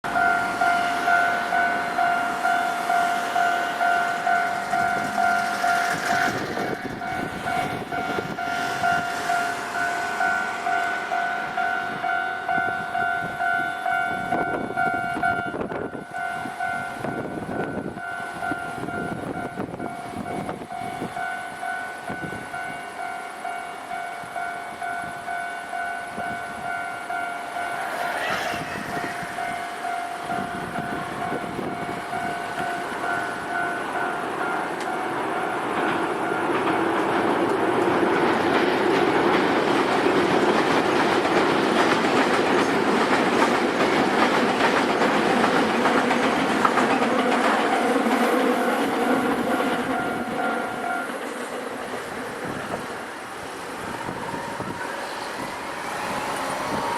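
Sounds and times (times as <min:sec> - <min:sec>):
train rumbling and clattering: 0:00.0 - 0:56.9.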